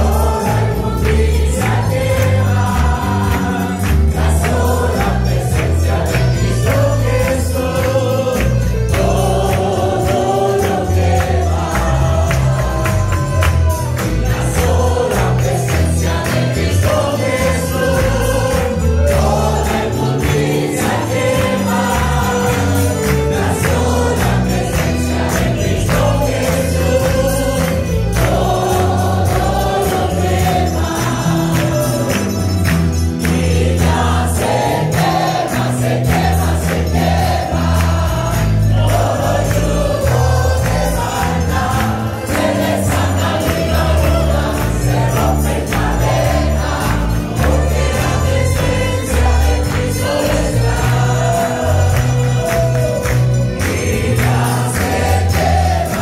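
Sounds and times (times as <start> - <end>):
congregation and choir singing: 0.0 - 56.0
live band with bass and percussion: 0.0 - 56.0.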